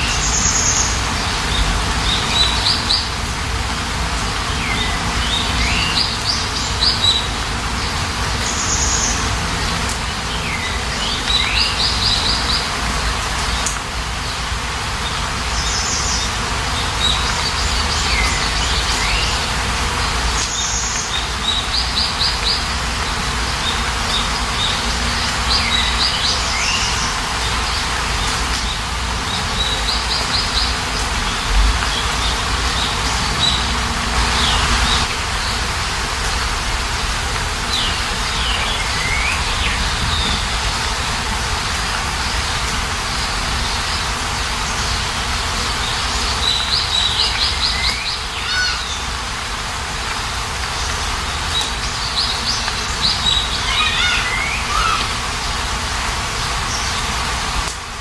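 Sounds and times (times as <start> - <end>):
songbirds chirping: 0.0 - 57.7
falling rain hiss: 0.0 - 58.0.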